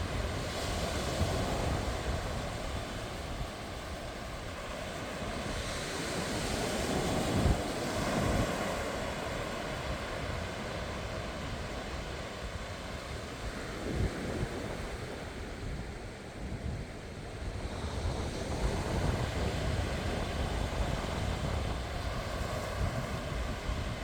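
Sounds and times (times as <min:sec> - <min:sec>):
sea waves washing onto beach: 0:00.0 - 0:24.0
wind buffeting microphone: 0:00.0 - 0:24.0.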